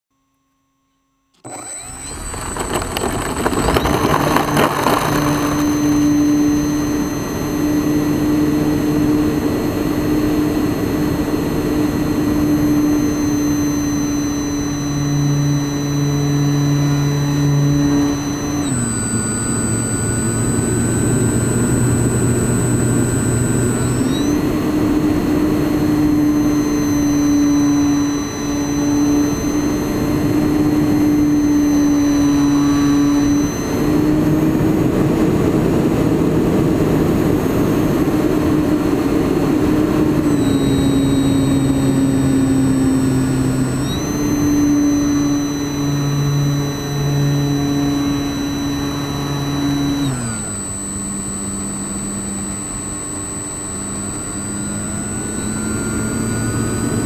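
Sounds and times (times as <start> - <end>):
electric motor and propeller whine: 1.4 - 57.0.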